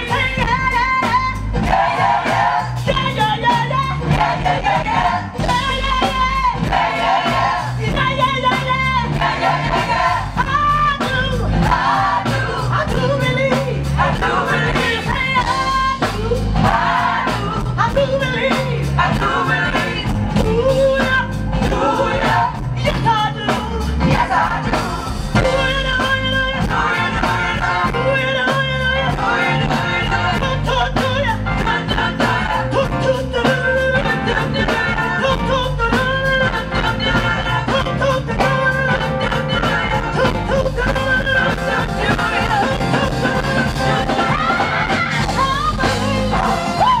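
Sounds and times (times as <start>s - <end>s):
band with steady beat: 0.0s - 47.0s
woman singing lead: 0.0s - 47.0s
choir singing: 1.5s - 3.0s, 3.6s - 10.7s, 11.5s - 15.8s, 16.6s - 17.6s, 18.2s - 20.3s, 21.6s - 22.8s, 24.0s - 35.8s, 36.4s - 47.0s.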